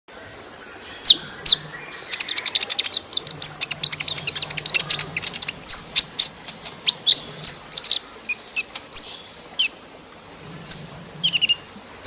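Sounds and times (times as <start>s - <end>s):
sunbird singing: 0.6s - 9.8s, 10.4s - 11.7s.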